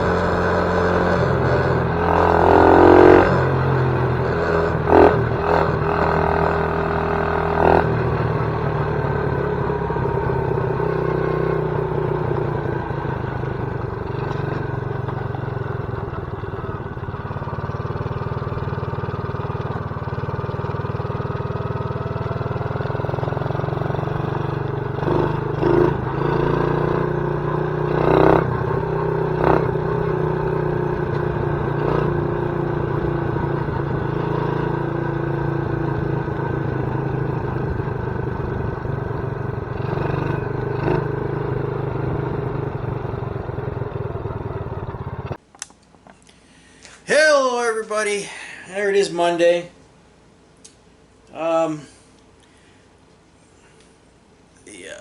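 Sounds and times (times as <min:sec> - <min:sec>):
atv engine running: 0:00.0 - 0:45.4.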